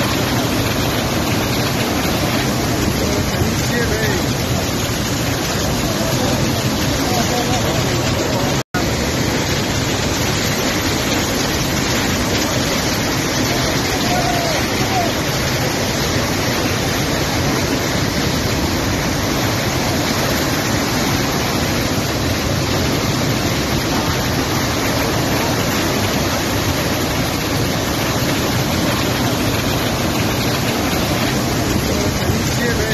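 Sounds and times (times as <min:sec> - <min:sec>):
flood torrent rushing: 0:00.0 - 0:32.9.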